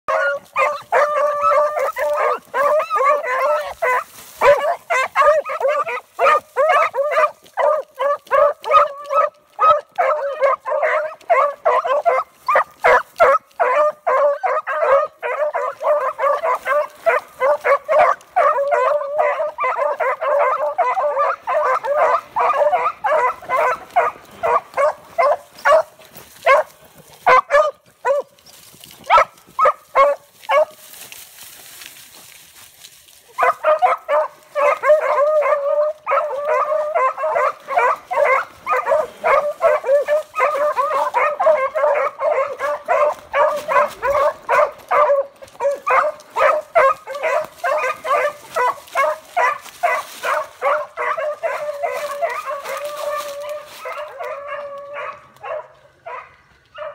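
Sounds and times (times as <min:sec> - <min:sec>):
puppies yipping: 0:00.1 - 0:30.8, 0:33.4 - 0:56.9.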